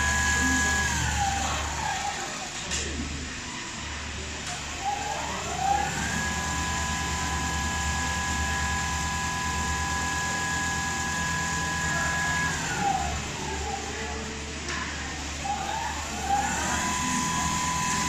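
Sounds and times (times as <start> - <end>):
sewing machine motor whine: 0.0 - 2.7, 3.4 - 18.0.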